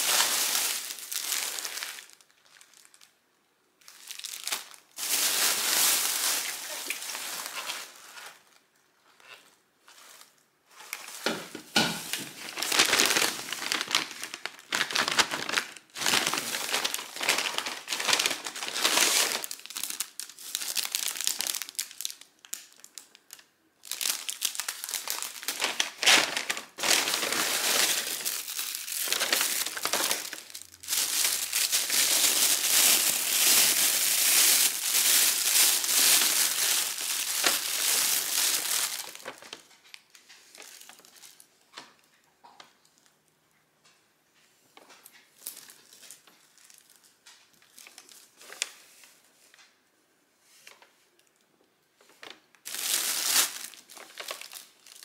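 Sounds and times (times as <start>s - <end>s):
plastic and paper bags crinkling: 0.0s - 3.2s, 3.8s - 43.2s, 44.8s - 49.7s, 52.0s - 55.0s.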